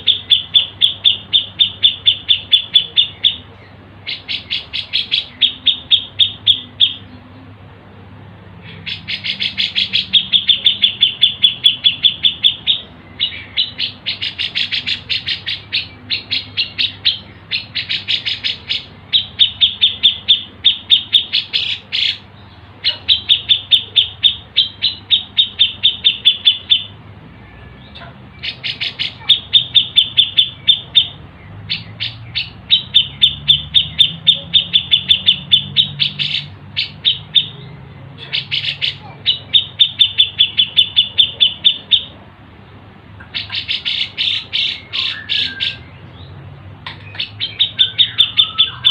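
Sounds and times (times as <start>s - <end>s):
songbird chirping: 0.0s - 48.9s.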